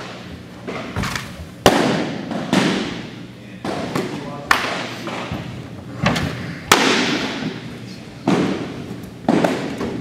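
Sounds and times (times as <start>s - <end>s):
baseballs smacking into mitts: 0.0s - 5.6s, 6.6s - 10.0s.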